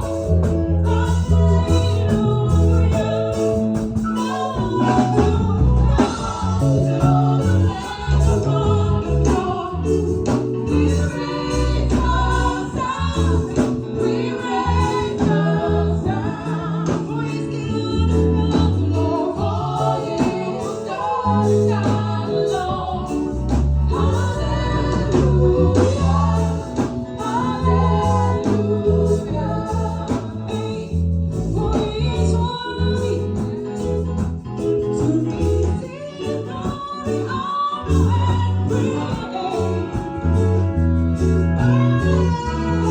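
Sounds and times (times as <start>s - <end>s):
band with bass and drums: 0.0s - 42.9s
choir and singers singing: 0.0s - 42.9s.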